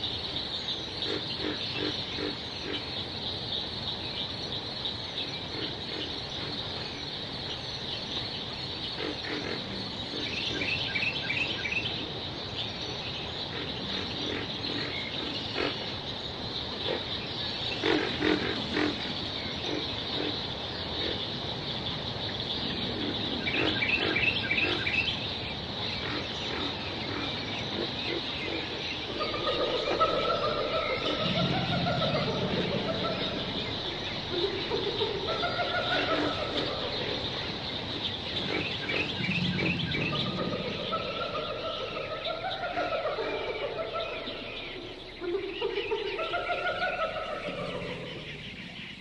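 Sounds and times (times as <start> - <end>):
frogs croaking: 0.0 - 49.0
insect trill: 0.0 - 49.0
rapid chirping: 0.0 - 49.0.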